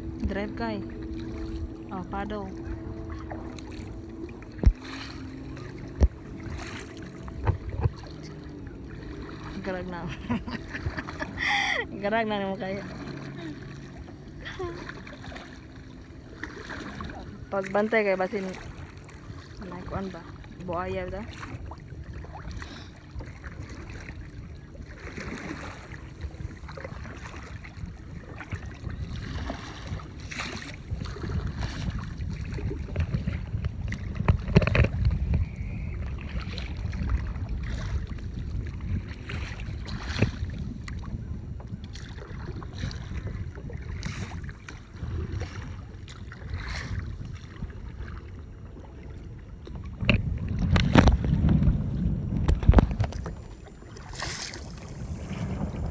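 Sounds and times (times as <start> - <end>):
wind on microphone: 0.0 - 13.6, 16.6 - 55.9
choppy river water: 0.0 - 55.9
paddle splashes: 0.0 - 55.9
waves slapping hull: 0.0 - 55.9.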